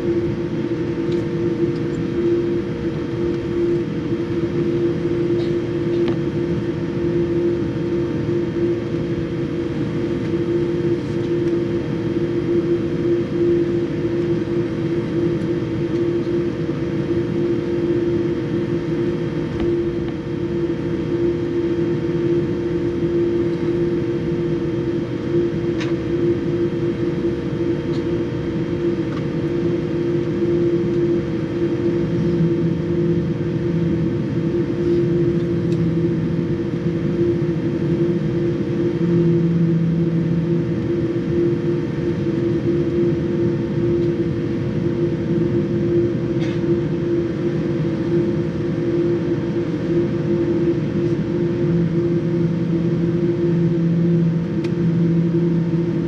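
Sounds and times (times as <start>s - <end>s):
jet engines droning in cabin: 0.0s - 56.0s.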